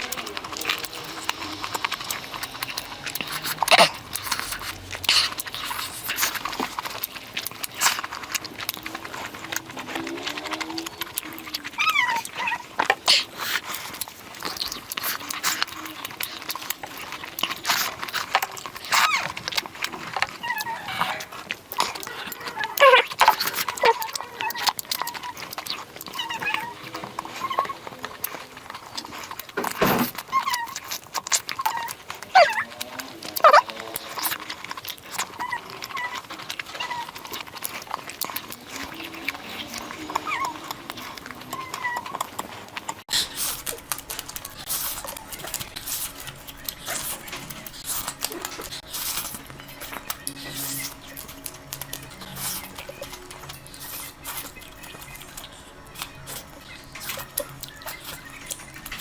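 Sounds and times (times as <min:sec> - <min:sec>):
person eating with wet smacks: 0:00.0 - 0:59.0.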